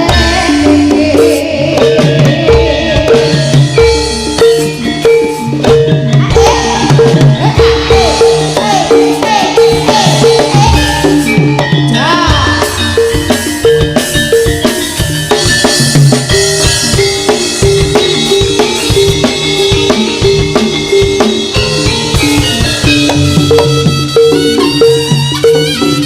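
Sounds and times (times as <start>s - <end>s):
steady drumming: 0.0s - 26.0s
tuned metal percussion melody: 0.0s - 26.0s.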